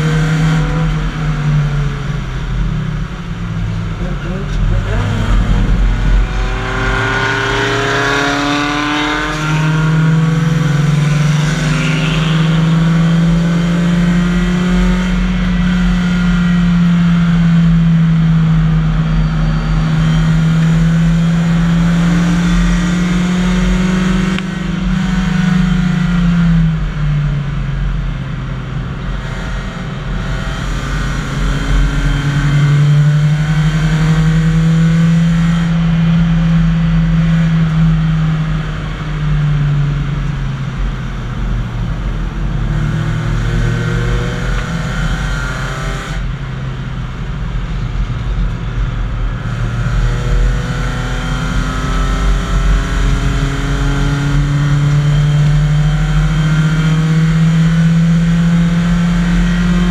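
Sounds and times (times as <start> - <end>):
race car engine from cabin: 0.0 - 59.9
second race car engine: 0.0 - 59.9.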